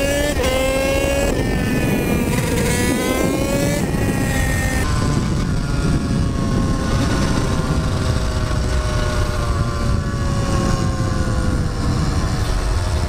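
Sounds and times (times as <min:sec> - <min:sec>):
dirt bike engine running: 0:00.0 - 0:13.0
wind rumble: 0:00.0 - 0:13.0.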